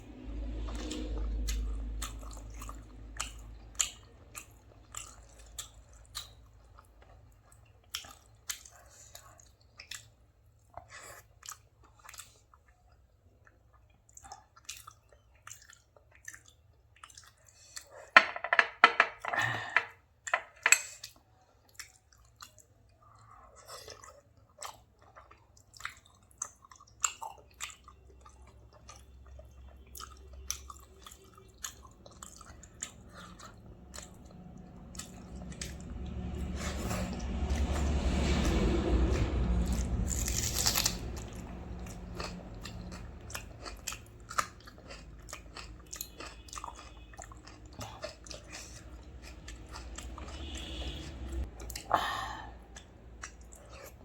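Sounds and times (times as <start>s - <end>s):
person chewing and crunching: 0.3s - 18.2s, 20.5s - 54.0s.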